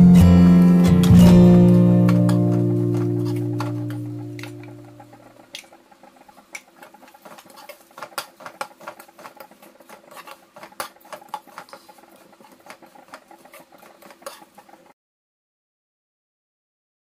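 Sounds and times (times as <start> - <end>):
ladle scraping crisp pieces in wok: 0.5 - 14.9.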